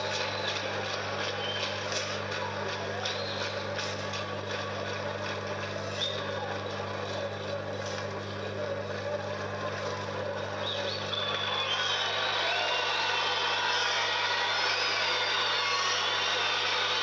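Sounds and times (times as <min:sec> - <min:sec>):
crowd noise: 0:00.0 - 0:17.0.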